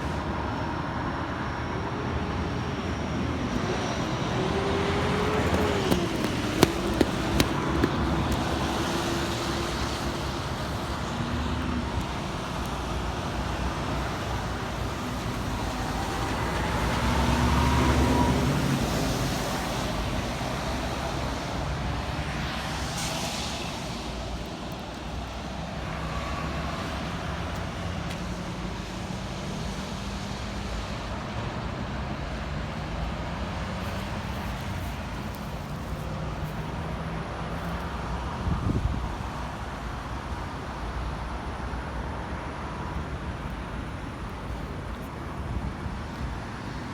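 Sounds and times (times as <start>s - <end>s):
vehicles passing: 0.0s - 46.9s.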